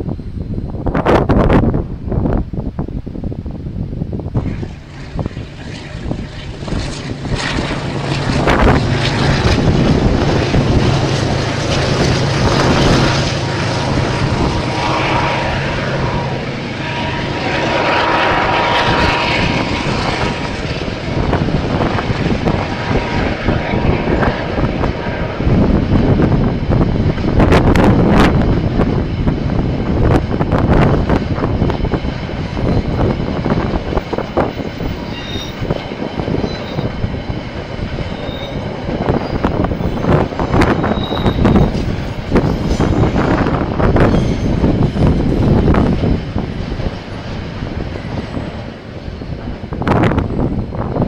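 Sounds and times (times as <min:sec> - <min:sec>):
diesel locomotive engine drone: 0:00.0 - 0:51.0
train wheels clattering on rails: 0:04.4 - 0:51.0.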